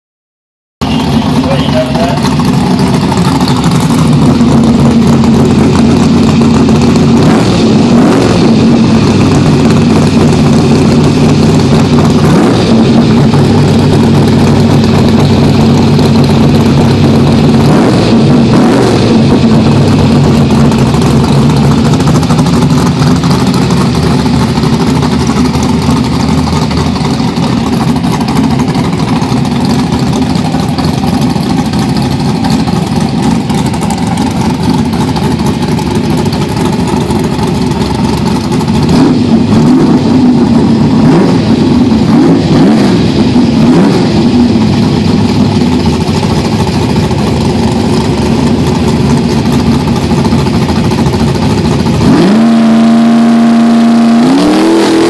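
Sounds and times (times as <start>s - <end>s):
drag car engine idling loudly: 0.8s - 55.0s.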